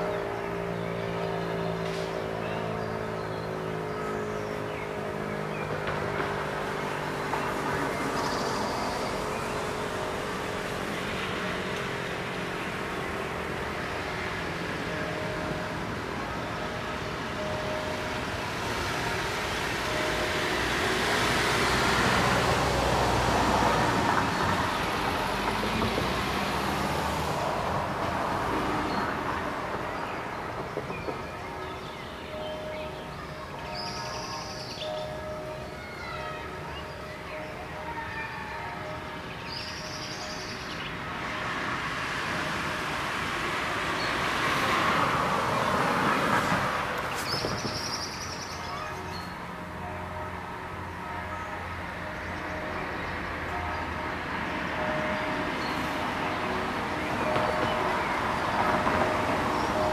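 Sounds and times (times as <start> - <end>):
car passing: 0.0 - 35.6, 38.8 - 59.9
traffic noise: 0.0 - 59.9.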